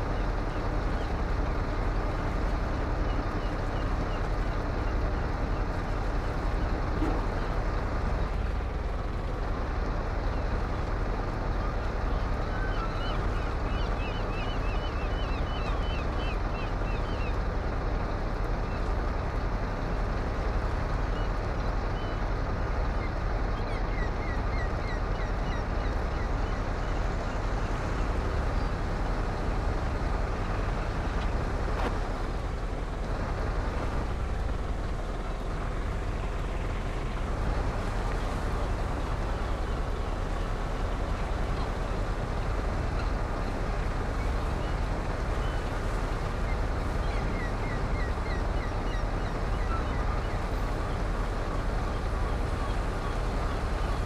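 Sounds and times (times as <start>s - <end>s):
truck engine and road rumble: 0.0s - 54.0s.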